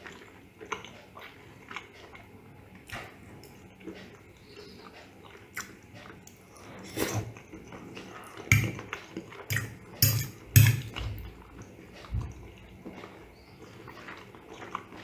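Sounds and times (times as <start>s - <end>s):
man chewing food: 0.0s - 15.0s.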